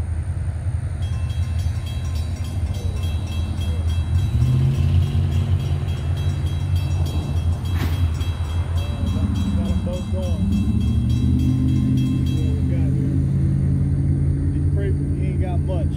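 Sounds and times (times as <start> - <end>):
diesel locomotive engine rumble: 0.0 - 15.9.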